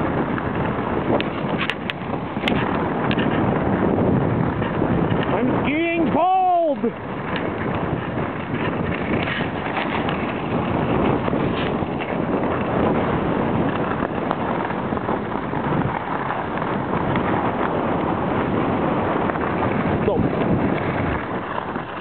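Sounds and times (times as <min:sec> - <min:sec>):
skis sliding on snow: 0:00.0 - 0:22.0
wind buffeting microphone: 0:00.0 - 0:22.0.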